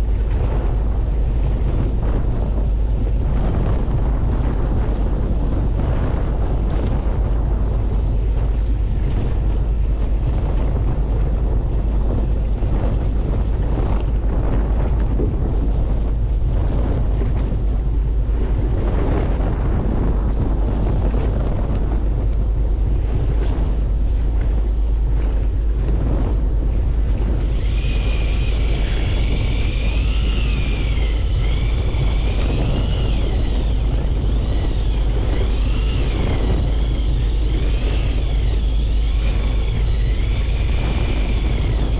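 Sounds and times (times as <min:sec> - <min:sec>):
boat engine rumble: 0:00.0 - 0:41.9
high wavering whine: 0:00.0 - 0:41.9
wind buffeting microphone: 0:00.0 - 0:41.9.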